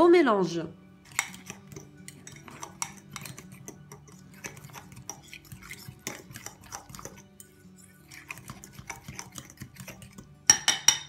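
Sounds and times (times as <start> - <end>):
metal spoon stirring in a mug: 1.0 - 11.0.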